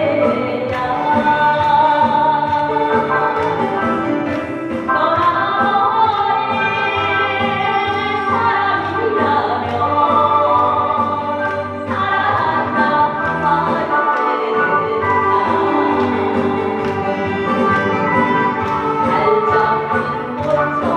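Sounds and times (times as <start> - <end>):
instrumental accompaniment: 0.0 - 20.9
woman singing: 0.0 - 20.9.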